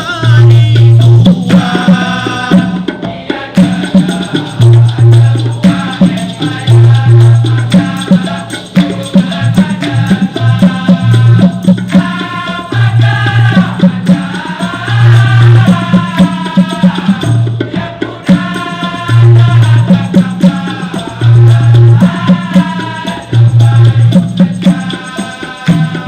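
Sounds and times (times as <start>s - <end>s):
drums beating: 0.0s - 26.0s
maracas shaking: 0.0s - 26.0s
voices singing: 0.0s - 26.0s.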